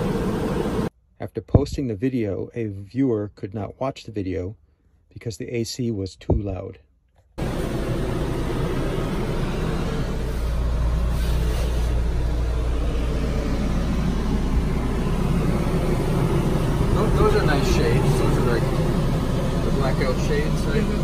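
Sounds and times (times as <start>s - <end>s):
air conditioner whooshing hum: 0.0s - 6.6s, 7.4s - 21.0s.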